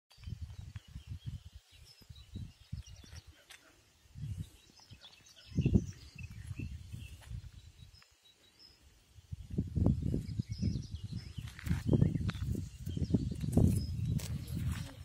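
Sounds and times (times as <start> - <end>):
wind buffeting microphone: 0.1 - 3.3, 4.0 - 8.0, 9.1 - 15.0
small birds chirping: 0.1 - 15.0.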